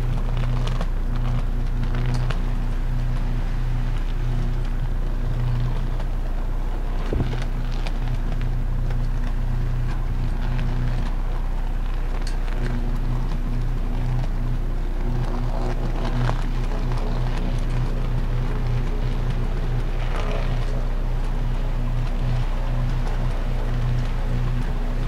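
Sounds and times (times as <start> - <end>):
electrical arc buzzing: 0.0 - 25.0
electrical arc crackles: 0.0 - 25.0.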